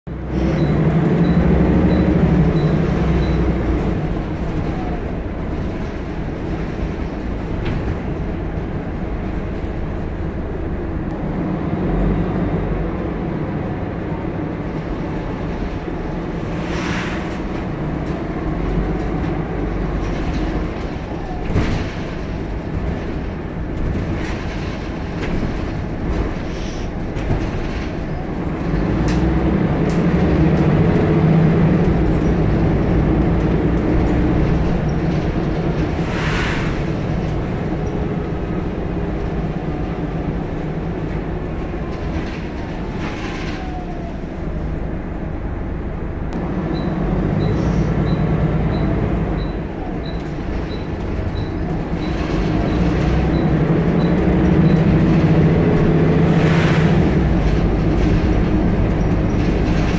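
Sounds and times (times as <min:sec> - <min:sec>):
bus diesel engine running: 0:00.1 - 0:59.9.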